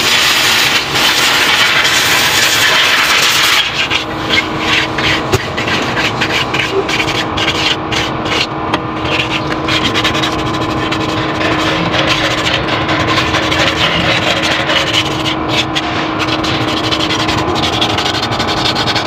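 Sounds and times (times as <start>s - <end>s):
loud machine hum: 0.0s - 19.0s.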